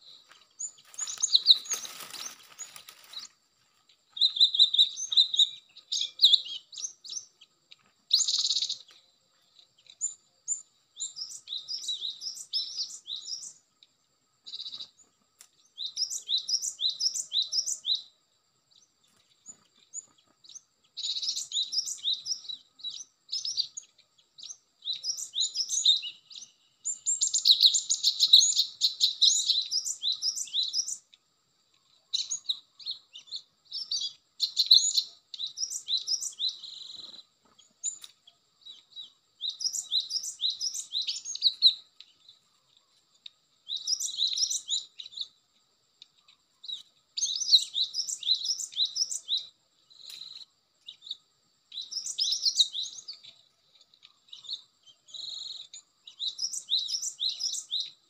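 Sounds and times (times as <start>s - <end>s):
birds chirping: 0.0s - 45.4s, 46.1s - 58.0s.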